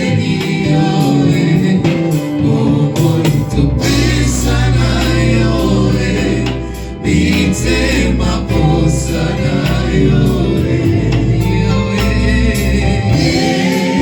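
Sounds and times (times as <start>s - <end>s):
band with steady bass line: 0.0s - 14.0s
voices singing together: 0.0s - 14.0s.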